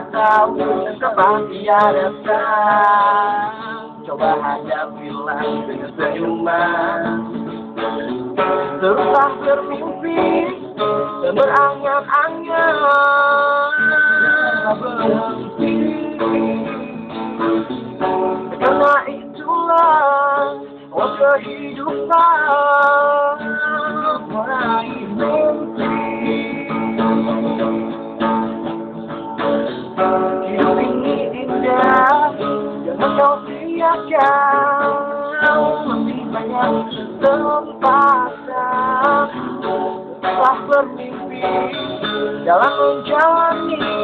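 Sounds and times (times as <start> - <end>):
man singing: 0.0 - 17.7, 18.4 - 28.4, 29.9 - 44.0
acoustic guitars strumming: 0.0 - 44.0.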